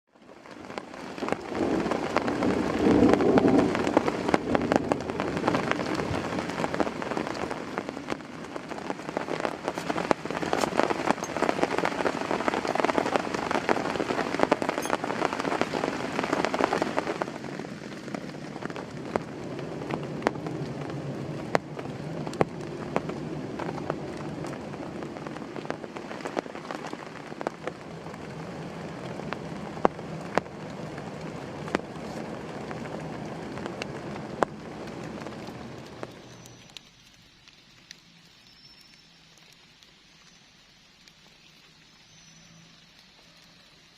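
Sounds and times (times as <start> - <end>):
raindrops striking close by: 0.0 - 43.9
heavy rain falling: 0.1 - 43.9.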